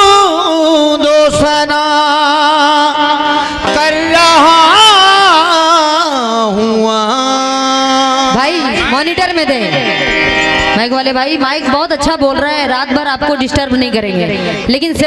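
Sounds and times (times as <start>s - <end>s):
harmonium notes: 0.0s - 15.0s.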